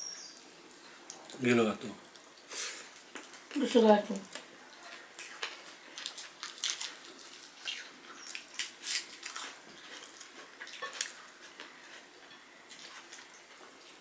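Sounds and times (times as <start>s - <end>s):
people chewing and lip smacking: 0.4s - 14.0s.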